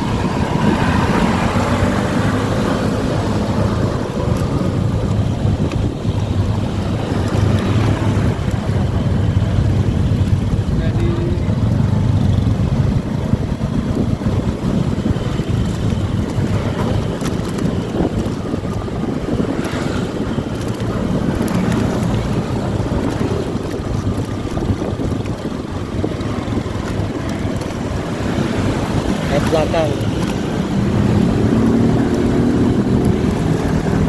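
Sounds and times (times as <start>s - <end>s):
motorcycle engine: 0.0s - 34.0s
road noise: 0.0s - 34.0s
wind rushing over microphone: 0.0s - 34.0s.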